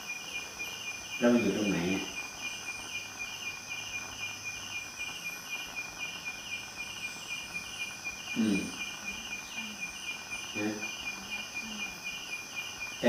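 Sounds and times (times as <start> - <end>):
high-pitched drone: 0.0 - 13.0
night insects chirping: 0.0 - 13.0.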